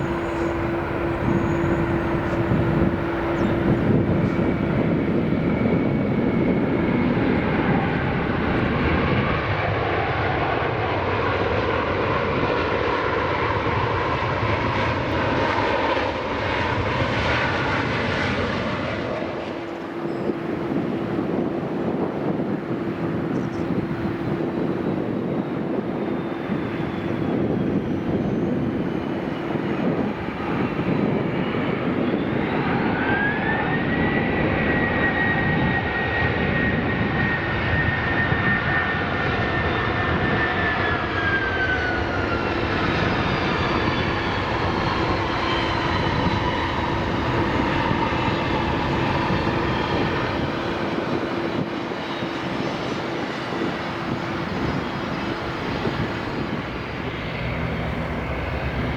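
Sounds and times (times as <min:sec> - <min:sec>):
high engine whine: 0:00.0 - 0:58.9
jet airliner passing: 0:00.0 - 0:58.9.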